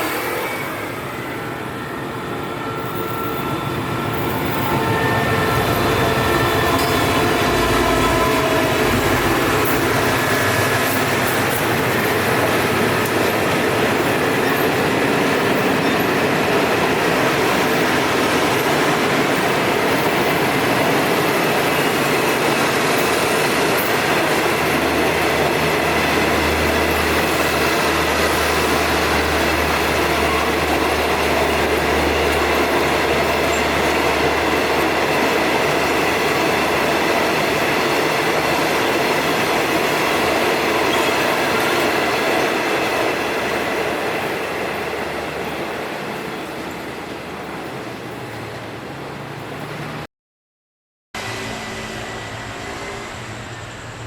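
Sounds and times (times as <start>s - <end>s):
train wheels rolling on track: 0.0s - 50.0s.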